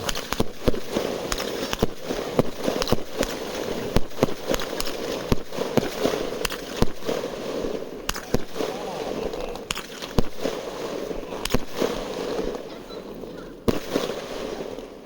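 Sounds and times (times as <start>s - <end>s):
fireworks bangs and pops: 0.0s - 15.0s
steady background noise: 0.0s - 15.0s.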